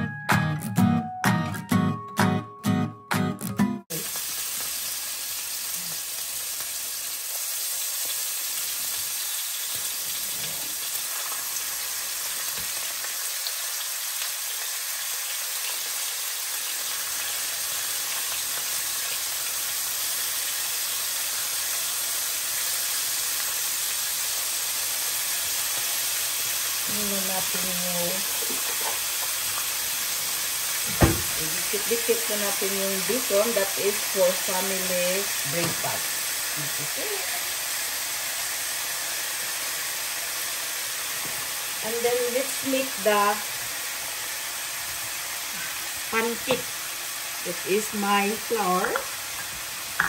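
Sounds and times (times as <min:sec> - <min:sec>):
bacon sizzling in frying pan: 0:03.9 - 0:50.0.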